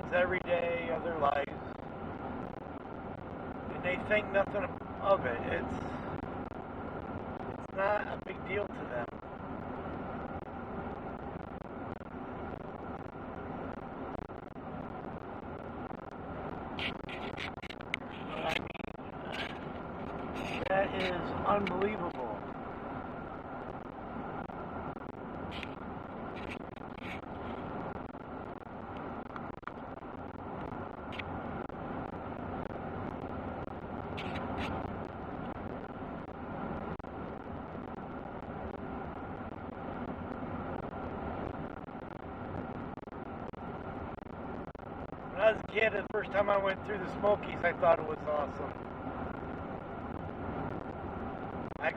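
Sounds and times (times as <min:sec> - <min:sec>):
truck road and engine noise: 0:00.0 - 0:51.9.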